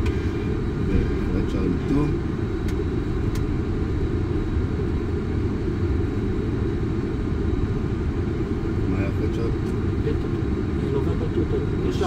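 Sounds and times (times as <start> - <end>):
airplane rolling low rumble: 0.0 - 12.0.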